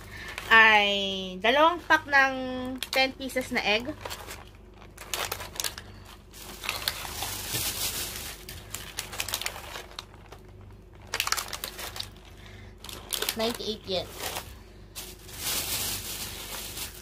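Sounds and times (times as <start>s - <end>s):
plastic egg cartons crinkling: 0.0s - 17.0s.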